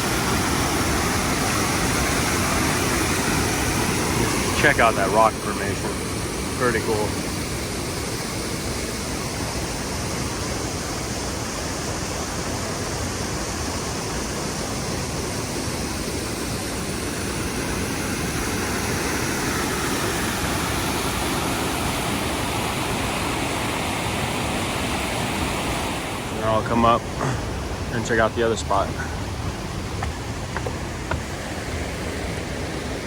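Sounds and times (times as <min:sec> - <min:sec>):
creek water rushing over rocks: 0:00.0 - 0:33.0.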